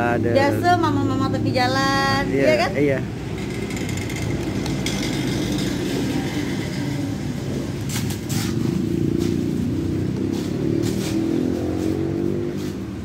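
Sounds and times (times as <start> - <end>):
vehicle engine running: 0.0 - 12.0
road traffic noise: 0.0 - 13.0.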